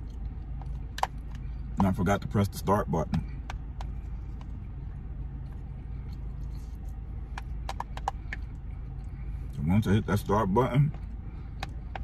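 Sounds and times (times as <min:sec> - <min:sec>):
low hum inside a car: 0:00.0 - 0:12.0.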